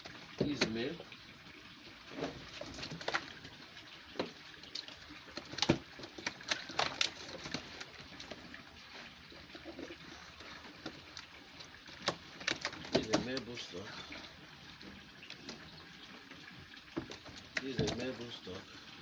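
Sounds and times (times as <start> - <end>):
running water: 0.0 - 19.0
water splashing: 0.0 - 19.0.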